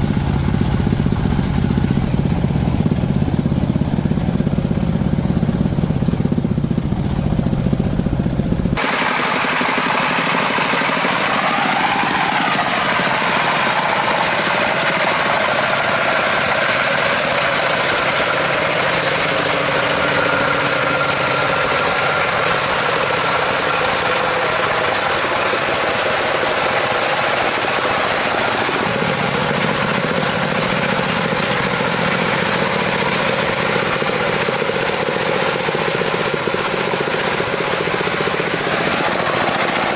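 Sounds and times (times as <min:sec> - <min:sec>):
truck engine knocking chug: 0:00.0 - 0:39.9.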